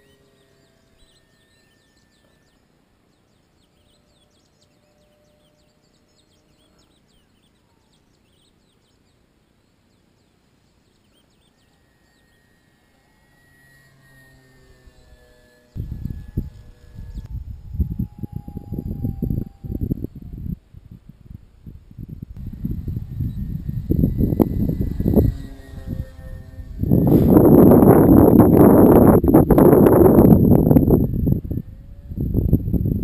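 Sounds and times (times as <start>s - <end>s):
model plane motor whine: 0.0s - 8.0s, 10.9s - 20.6s, 21.6s - 33.0s
birds chirping: 0.0s - 20.5s, 22.1s - 33.0s.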